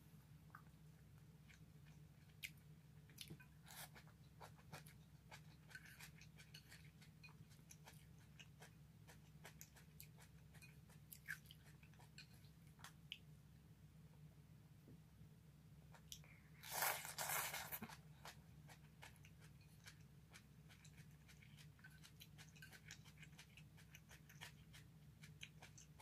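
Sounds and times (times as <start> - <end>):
steady low hum: 0.0 - 26.0
close-up chewing: 0.4 - 13.3, 15.9 - 26.0.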